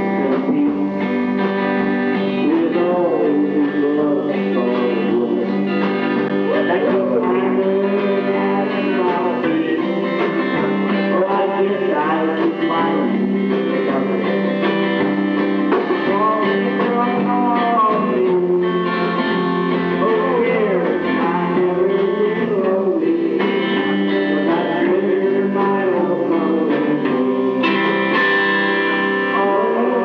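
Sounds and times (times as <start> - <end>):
guitar: 0.0 - 30.0
person singing into a microphone: 0.0 - 30.0.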